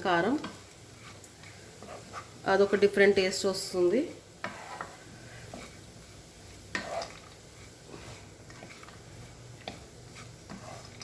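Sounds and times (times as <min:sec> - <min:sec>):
faint sizzling: 0:00.0 - 0:11.0
spatula stirring in frying pan: 0:00.0 - 0:11.0
spatula scraping and tapping pan: 0:00.2 - 0:03.2, 0:04.4 - 0:11.0.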